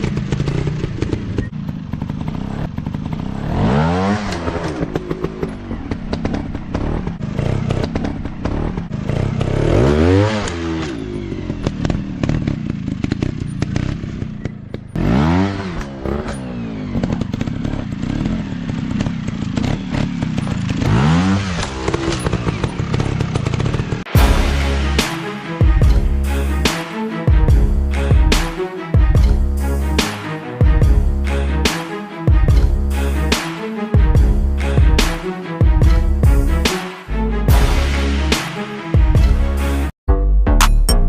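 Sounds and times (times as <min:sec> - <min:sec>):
dirt bike engine revving: 0:00.0 - 0:36.8.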